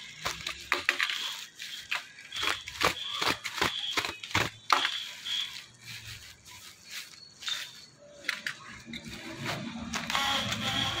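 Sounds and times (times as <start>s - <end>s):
high plastic squeaks: 0.0s - 11.0s
plastic wrap crinkling: 0.0s - 11.0s.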